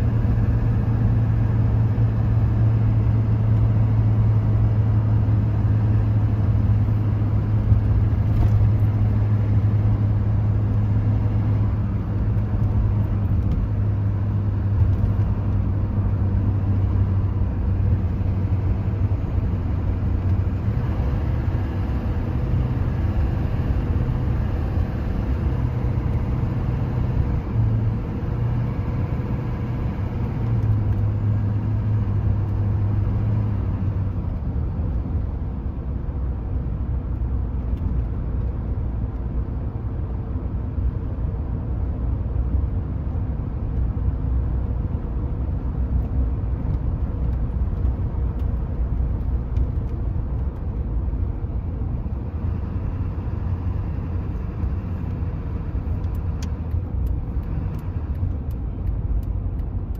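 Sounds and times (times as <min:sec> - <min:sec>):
diesel engine drone: 0:00.0 - 0:59.9
road noise: 0:00.0 - 0:59.9.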